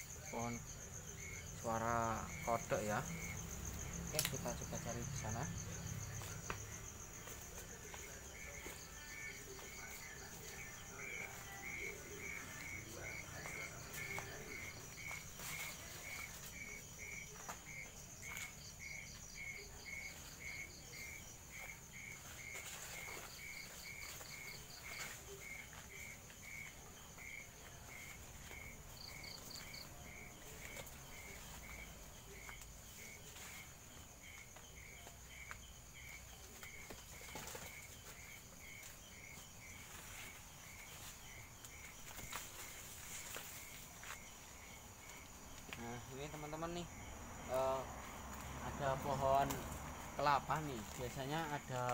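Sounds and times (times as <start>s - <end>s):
insects trilling: 0.0s - 51.9s
rustling in vegetation: 0.0s - 51.9s.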